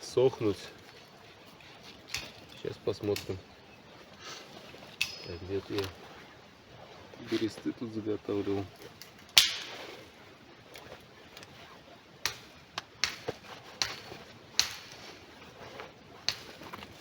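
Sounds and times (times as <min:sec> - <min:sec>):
dry twigs snapping and crackling: 0:00.0 - 0:06.4, 0:08.3 - 0:17.0.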